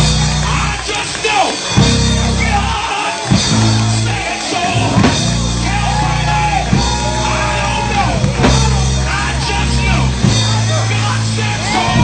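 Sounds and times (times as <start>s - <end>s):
live band accompaniment: 0.0s - 12.0s
man singing gospel: 0.2s - 12.0s.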